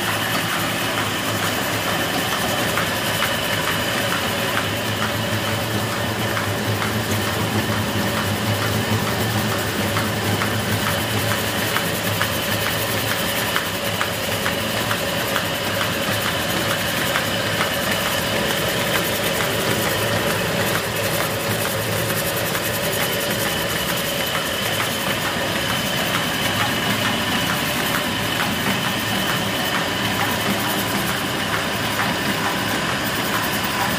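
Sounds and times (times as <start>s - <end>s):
stone flour mill droning: 0.0s - 33.9s
fast regular ticking: 0.1s - 33.9s.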